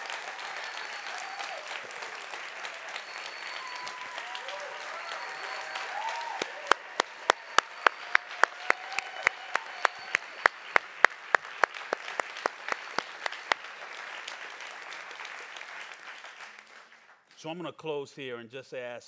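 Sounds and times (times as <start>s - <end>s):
sharp hand claps: 0.0s - 17.2s
audience applauding: 0.0s - 17.3s.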